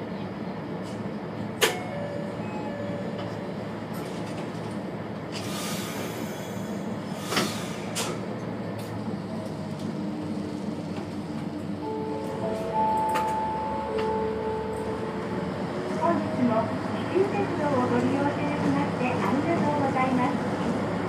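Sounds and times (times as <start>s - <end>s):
diesel railcar engine idling: 0.0s - 21.0s.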